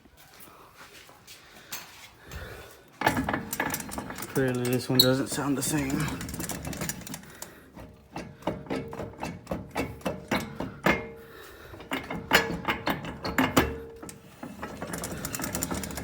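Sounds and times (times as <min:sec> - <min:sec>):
wheel hub clicking and knocking: 0:03.0 - 0:16.0.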